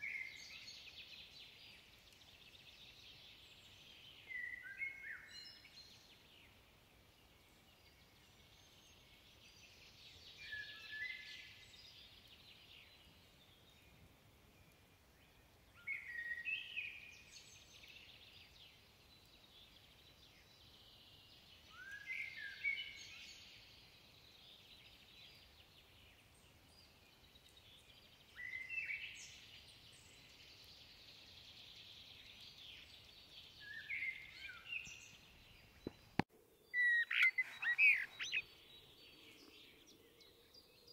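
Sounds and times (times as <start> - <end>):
distant blackbird singing: 0.0 - 40.9.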